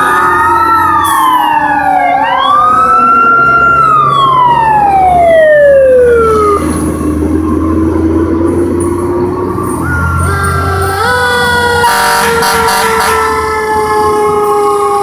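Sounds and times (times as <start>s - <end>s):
fire truck siren wailing: 0.0s - 15.0s.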